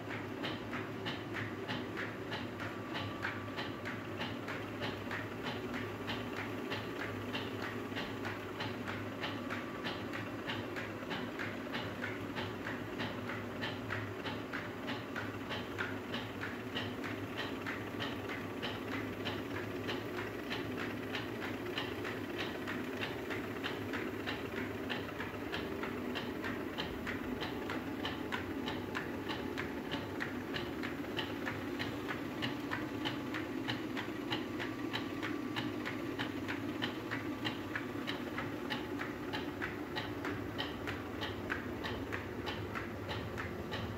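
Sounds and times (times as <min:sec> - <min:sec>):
stone mill humming: 0:00.1 - 0:43.9.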